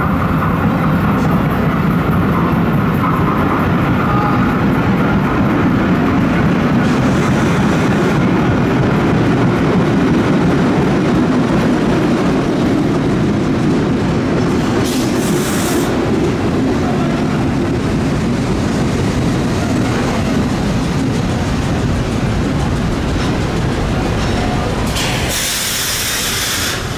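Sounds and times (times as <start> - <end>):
wheels clacking: 0.0 - 25.4
subway train rumbling: 0.0 - 26.9.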